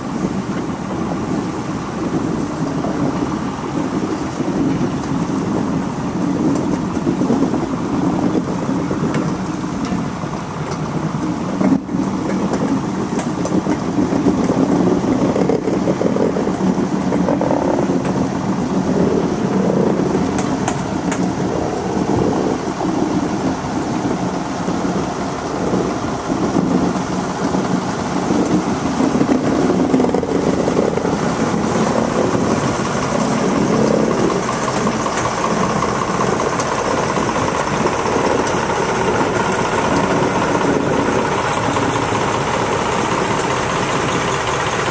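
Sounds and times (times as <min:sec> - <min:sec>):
coaches rolling on rails: 0:00.0 - 0:44.9
diesel locomotive engine running: 0:00.0 - 0:44.9.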